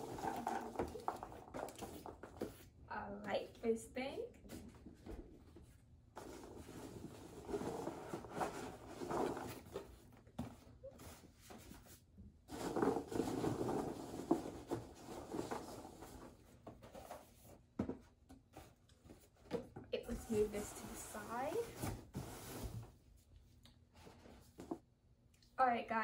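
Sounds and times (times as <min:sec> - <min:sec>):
cardboard rustling and scraping: 0:00.0 - 0:02.7, 0:04.4 - 0:23.0.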